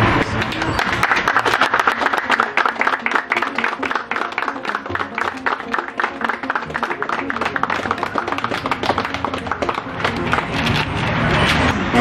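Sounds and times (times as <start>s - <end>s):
group clapping: 0.0s - 11.7s
background music: 0.0s - 12.0s.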